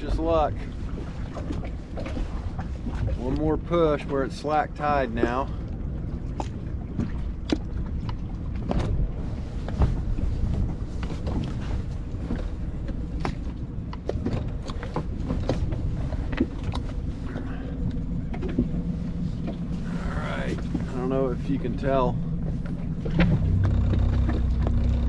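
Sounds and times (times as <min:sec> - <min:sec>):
boat motor rumbling: 0:00.0 - 0:25.0.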